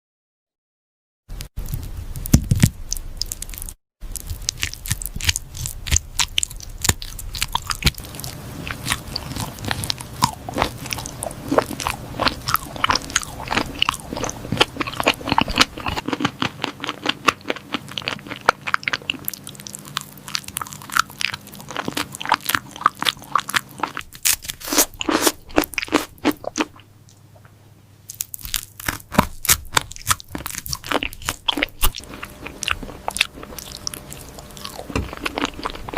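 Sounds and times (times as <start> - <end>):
crunchy biting and chewing: 1.4 - 27.2, 28.1 - 35.9.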